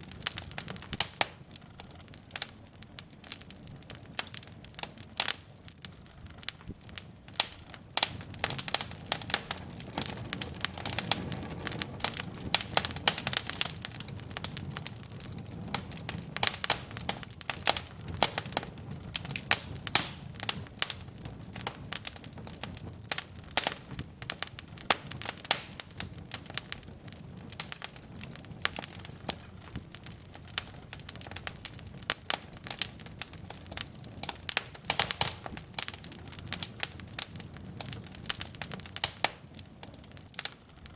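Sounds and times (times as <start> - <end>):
logs crackling and popping: 0.0 - 40.9
low rumble of flame: 0.0 - 40.9.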